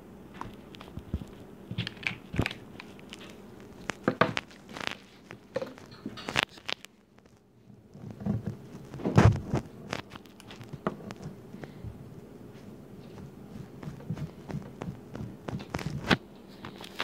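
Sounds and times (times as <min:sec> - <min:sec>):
hands handling slime: 0:00.4 - 0:11.8, 0:13.0 - 0:17.0.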